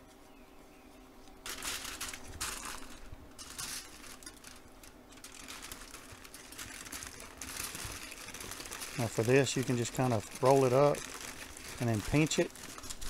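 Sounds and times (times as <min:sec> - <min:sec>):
aluminium foil crinkling: 0:01.4 - 0:13.0.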